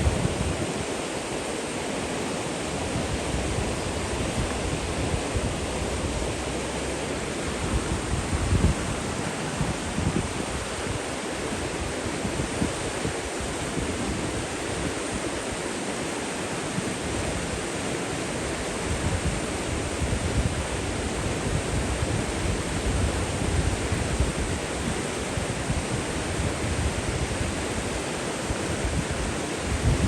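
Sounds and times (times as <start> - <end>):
running water: 0.0 - 30.0.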